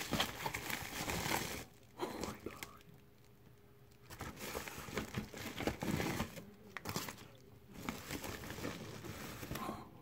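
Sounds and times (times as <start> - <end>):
plastic bag crinkling: 0.0 - 2.8, 4.0 - 9.7.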